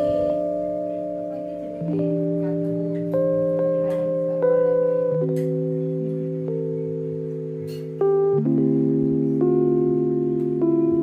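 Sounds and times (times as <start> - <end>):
soft instrumental chords: 0.0 - 11.0.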